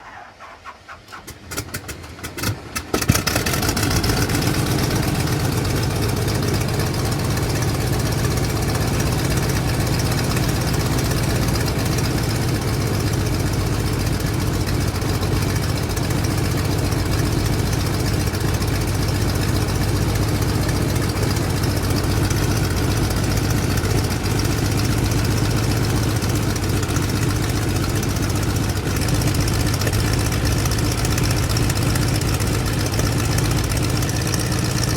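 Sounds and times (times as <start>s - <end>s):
airplane engine running: 1.2s - 34.9s.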